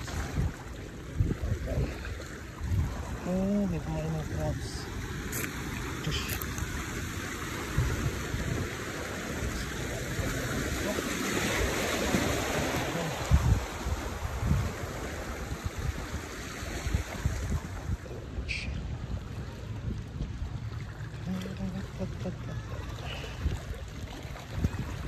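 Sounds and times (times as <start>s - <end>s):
wind buffeting the microphone: 0.0s - 21.4s, 22.3s - 25.0s
small waves washing against rocks: 0.0s - 25.0s.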